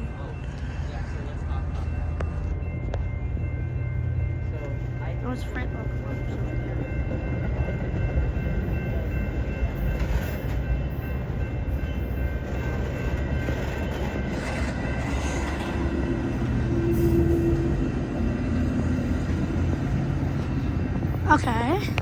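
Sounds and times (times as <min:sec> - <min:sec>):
diesel locomotives rumbling: 0:00.0 - 0:22.0
rail noise: 0:00.0 - 0:22.0.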